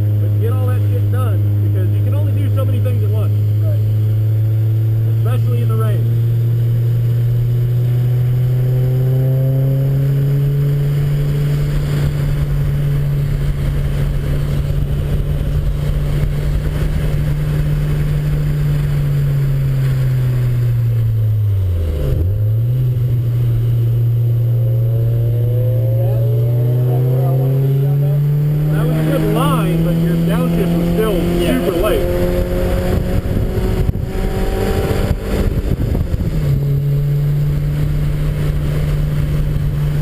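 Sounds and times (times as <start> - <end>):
car engine under load: 0.0 - 40.0.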